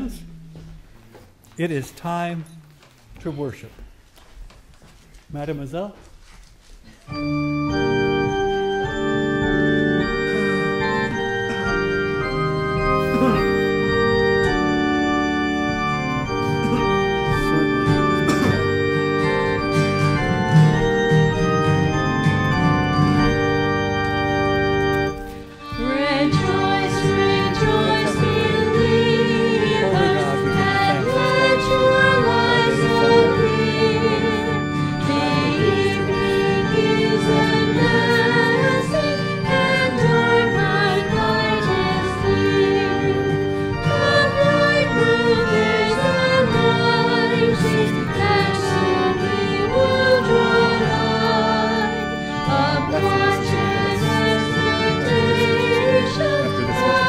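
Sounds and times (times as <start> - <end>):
church organ playing: 6.8 - 57.0
congregation singing a hymn: 7.2 - 57.0.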